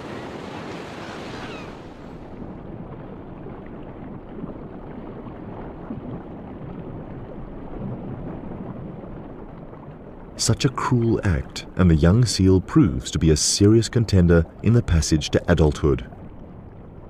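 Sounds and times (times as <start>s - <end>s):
sea rushing: 0.0s - 17.0s.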